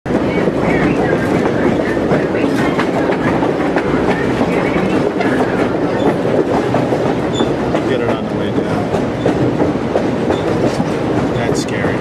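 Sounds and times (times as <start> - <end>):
train cars rumbling: 0.1 - 12.0
wheels clacking on rails: 0.1 - 12.0.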